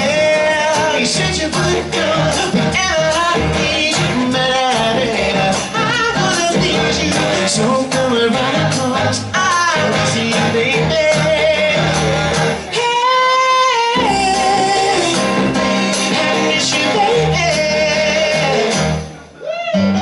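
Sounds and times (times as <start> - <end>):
men singing: 0.0 - 19.0
live band music: 0.0 - 20.0.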